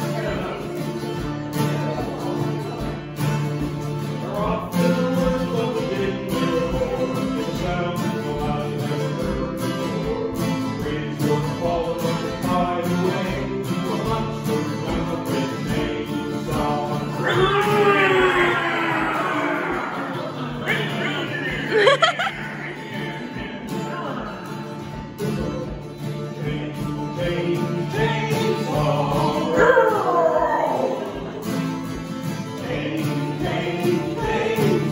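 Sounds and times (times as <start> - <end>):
acoustic guitars strummed: 0.0 - 34.9.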